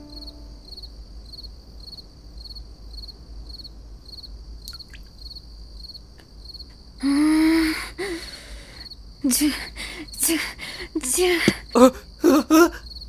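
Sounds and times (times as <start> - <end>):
cricket chirping: 0.0 - 13.0
faint low hum: 0.0 - 13.0.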